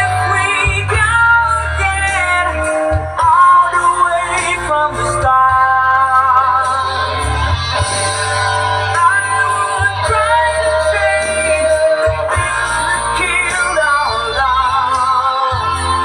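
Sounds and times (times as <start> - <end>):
steady bass line: 0.0 - 16.0.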